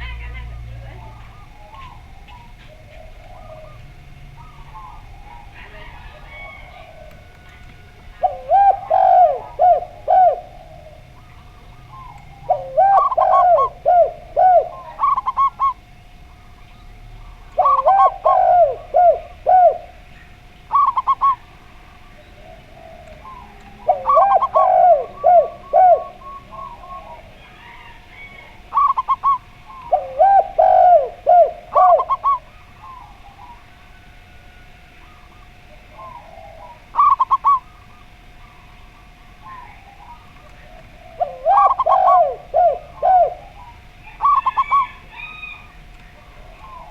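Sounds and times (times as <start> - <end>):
doves cooing: 0.0 - 46.9
faint steady hum: 0.0 - 46.9.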